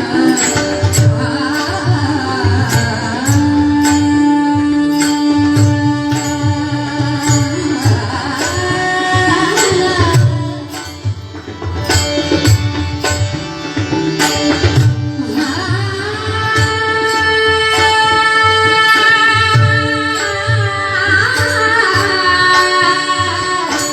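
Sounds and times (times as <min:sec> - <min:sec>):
hand drum: 0:00.0 - 0:23.9
person singing devotional melody: 0:00.0 - 0:23.9.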